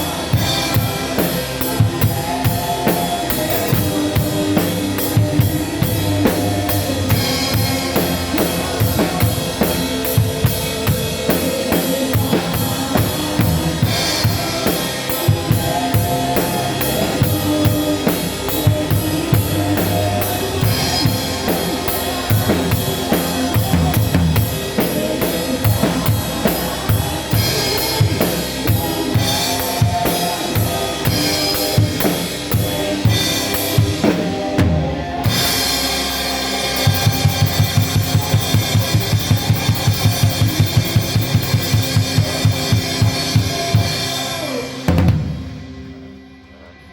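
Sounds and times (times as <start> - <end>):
church band playing: 0.0 - 46.9.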